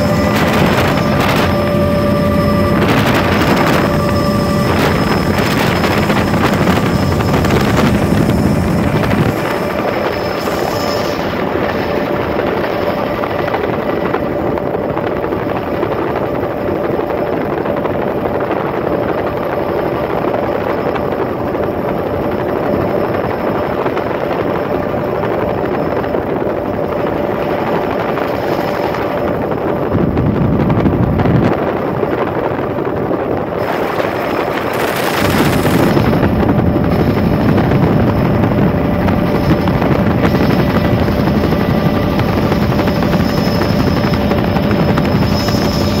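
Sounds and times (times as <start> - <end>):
helicopter turbine and rotor noise: 0.0 - 46.0.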